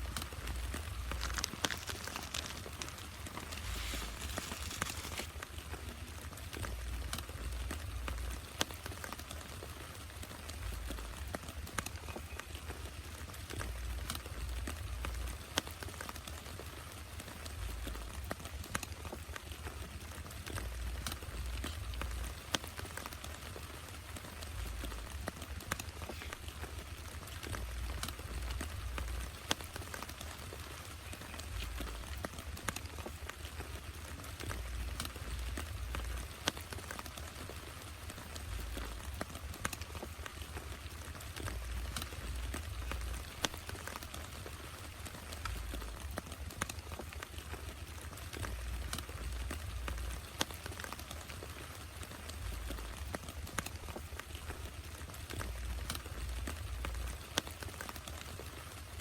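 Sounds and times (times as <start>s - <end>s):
heavy rain falling: 0.0s - 59.0s
raindrops tapping a surface: 0.0s - 59.0s.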